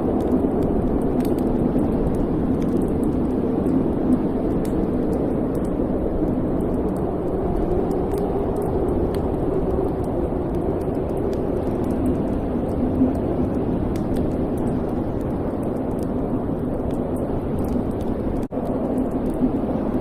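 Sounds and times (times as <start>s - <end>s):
wood fire burning: 0.0s - 20.0s.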